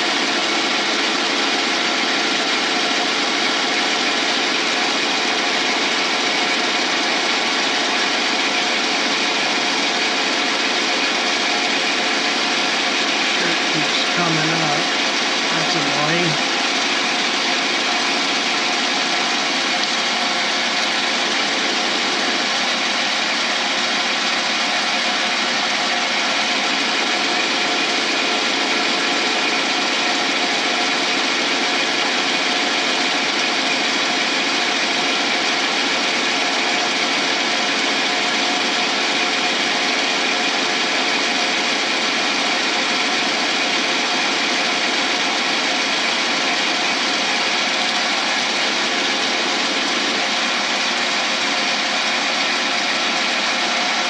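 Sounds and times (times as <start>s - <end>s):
lathe cutting metal: 0.0s - 54.0s.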